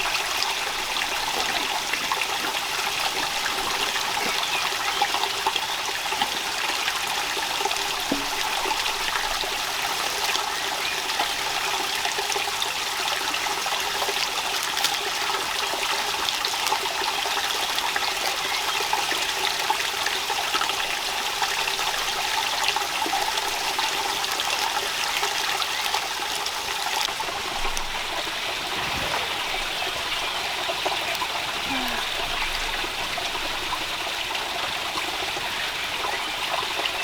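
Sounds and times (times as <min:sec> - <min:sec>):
running water rushing: 0:00.0 - 0:37.0.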